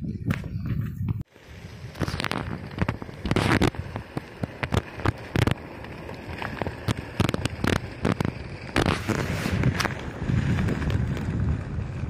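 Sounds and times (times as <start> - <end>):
tyre rumble on asphalt: 0.3 - 12.0
crackles and knocks over cracks: 1.9 - 12.0.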